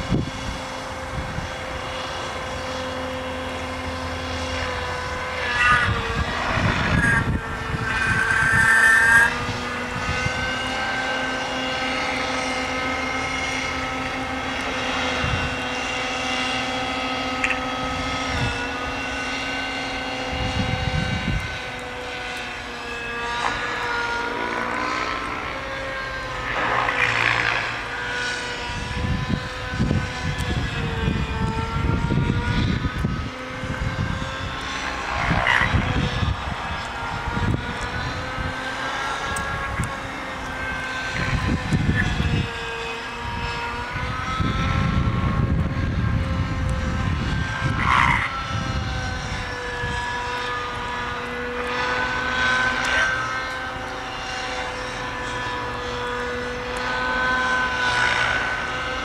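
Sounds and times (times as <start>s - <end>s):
model helicopter engine whine: 0.0s - 59.0s.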